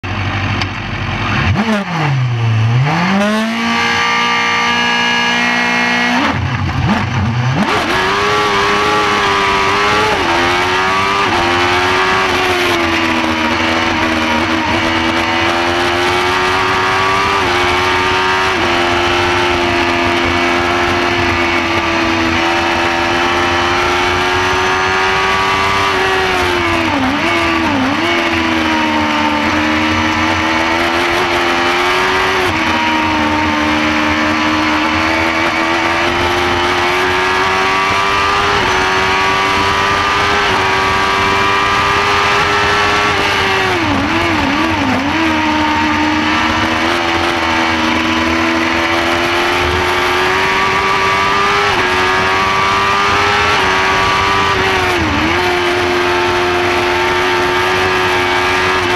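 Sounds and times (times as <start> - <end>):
race car engine at high revs: 0.0 - 58.9.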